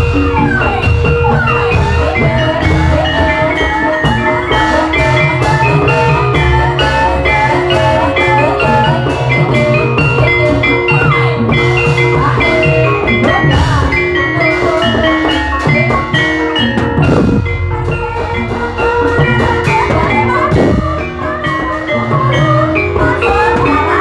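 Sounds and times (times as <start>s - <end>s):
drum strokes: 0.0s - 24.0s
metallophones ringing: 0.0s - 24.0s.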